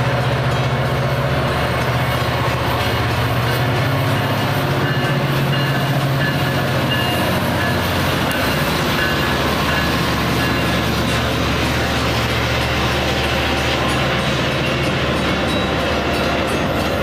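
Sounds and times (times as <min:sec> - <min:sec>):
diesel locomotive engine drone: 0:00.0 - 0:17.0
train rolling past: 0:00.0 - 0:17.0.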